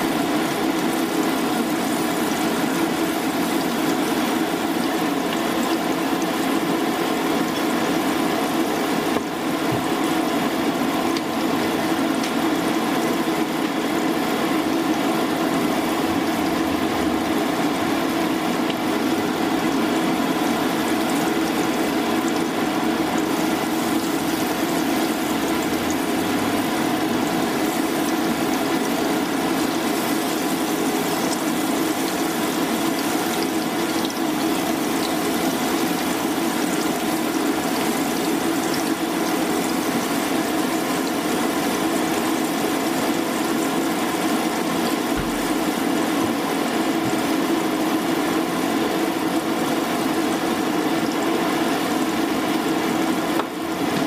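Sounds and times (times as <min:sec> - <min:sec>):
battered food sizzling in oil: 0:00.0 - 0:54.0.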